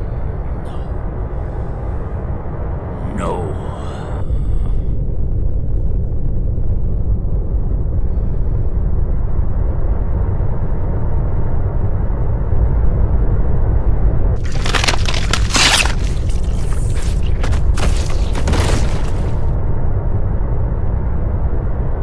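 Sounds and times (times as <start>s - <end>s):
deep rumbling drone: 0.0s - 22.0s.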